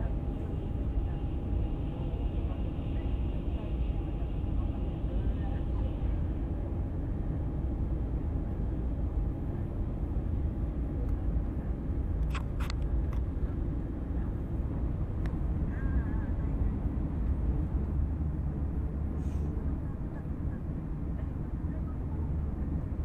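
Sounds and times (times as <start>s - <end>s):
train rumbling at speed: 0.0s - 23.0s.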